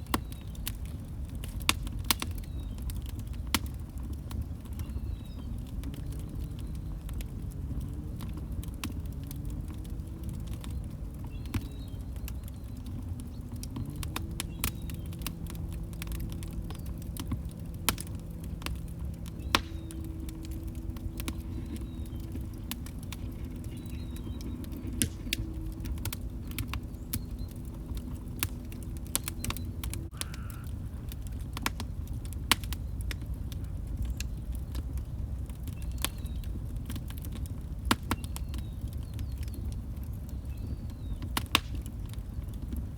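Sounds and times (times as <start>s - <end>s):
log fire crackling and popping: 0.0s - 42.9s
low rumble of burning: 0.0s - 42.9s.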